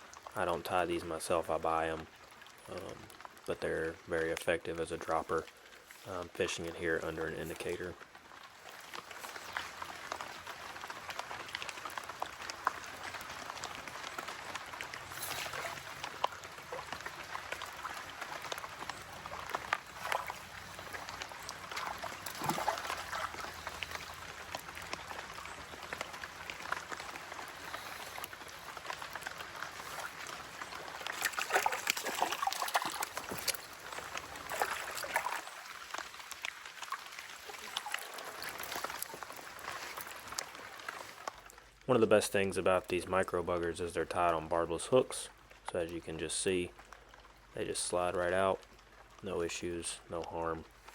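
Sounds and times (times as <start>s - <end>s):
creek water trickling: 0.0s - 50.9s.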